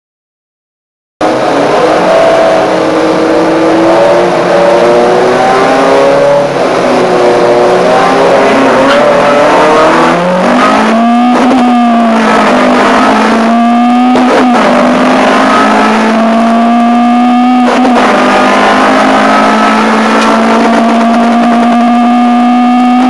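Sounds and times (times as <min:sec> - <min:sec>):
other race cars: 0:01.2 - 0:23.0
race car engine at high revs: 0:01.2 - 0:23.0.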